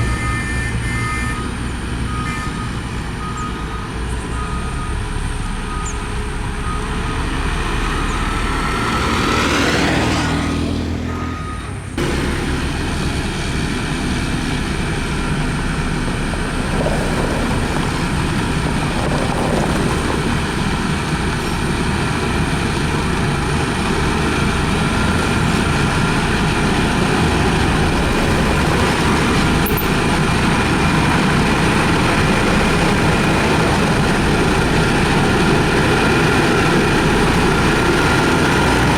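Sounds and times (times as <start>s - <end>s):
heavy machinery diesel engine running: 0.0s - 38.9s.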